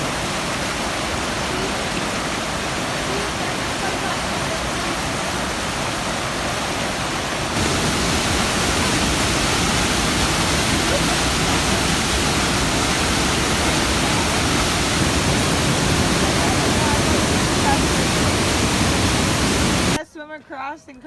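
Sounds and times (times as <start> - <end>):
rushing water roar: 0.0 - 20.0.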